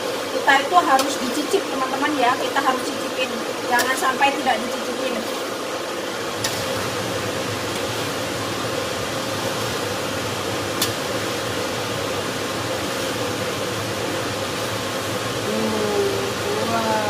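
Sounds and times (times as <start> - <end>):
sambal sizzling in oil: 0.0 - 15.5
faint constant hum: 0.0 - 17.0.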